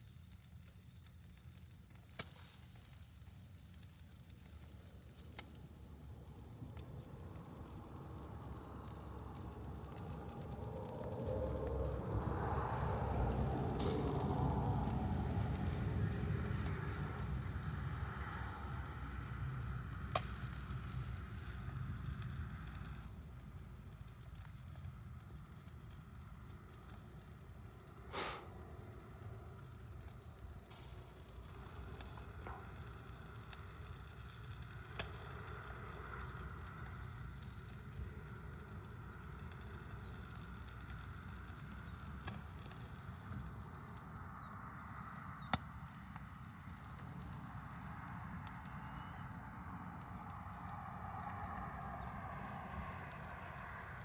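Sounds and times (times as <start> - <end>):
campfire low rumble: 0.0 - 54.0
burning wood popping: 0.1 - 44.5, 45.2 - 53.2.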